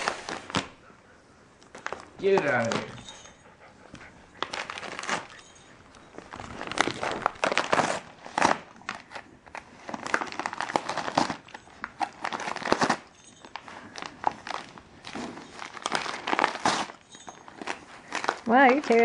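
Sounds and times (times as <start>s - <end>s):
dog tearing wrapping paper: 0.0s - 0.8s, 1.7s - 2.9s, 4.4s - 5.4s, 6.1s - 19.0s.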